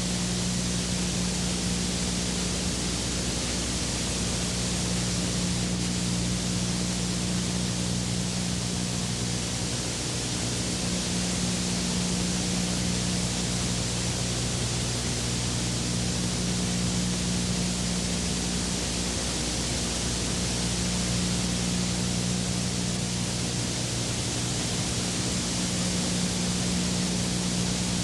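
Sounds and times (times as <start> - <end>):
low electrical hum: 0.0 - 28.0
steady hiss: 0.0 - 28.0.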